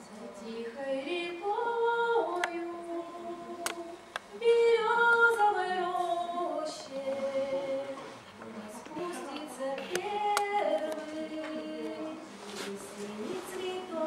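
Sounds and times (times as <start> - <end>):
women's choir singing: 0.1 - 14.0.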